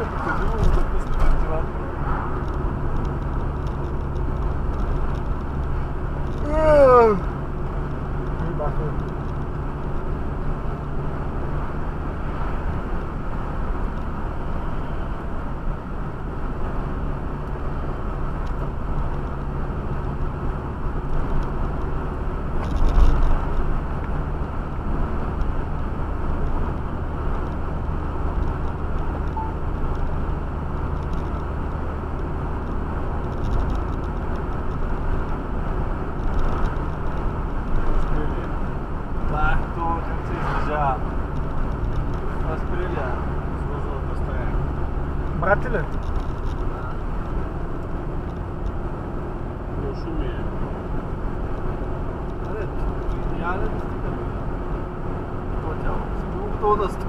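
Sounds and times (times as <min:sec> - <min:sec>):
car engine hum: 0:00.0 - 0:57.0
tyre and road noise: 0:00.0 - 0:57.0.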